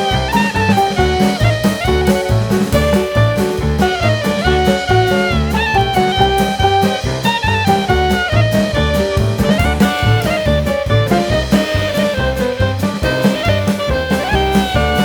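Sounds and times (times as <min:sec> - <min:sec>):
bass and drum beat: 0:00.0 - 0:15.0
sliding melody line: 0:00.0 - 0:15.0.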